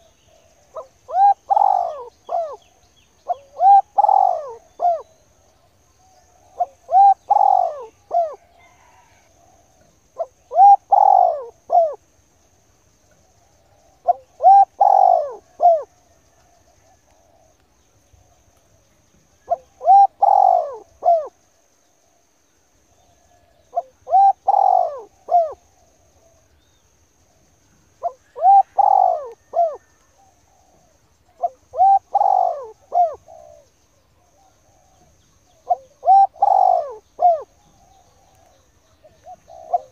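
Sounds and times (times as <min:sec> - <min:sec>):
dove cooing: 0:00.0 - 0:05.3, 0:06.1 - 0:12.0, 0:13.2 - 0:17.6, 0:19.2 - 0:21.4, 0:23.1 - 0:26.5, 0:27.3 - 0:39.9.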